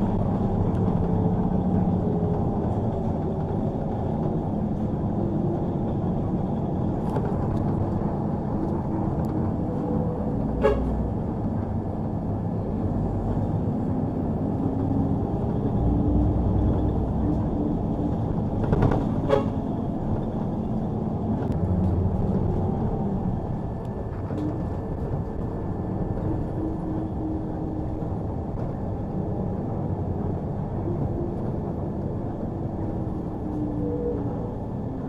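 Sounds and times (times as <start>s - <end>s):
bus engine and road noise: 0.0s - 35.0s.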